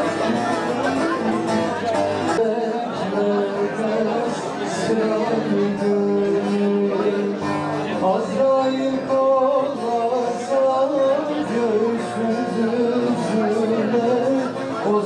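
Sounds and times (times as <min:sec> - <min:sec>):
person singing folk music: 0:00.0 - 0:15.0
plucked string instrument: 0:00.0 - 0:15.0.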